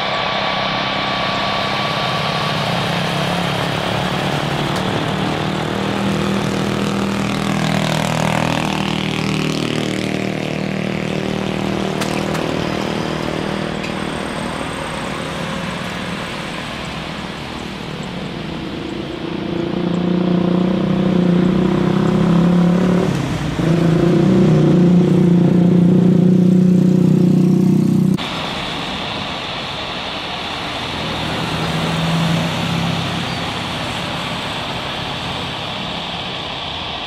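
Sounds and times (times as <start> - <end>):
hissing jet noise on approach: 0.0 - 26.2, 28.0 - 37.0
jet engines droning on runway: 0.0 - 37.0.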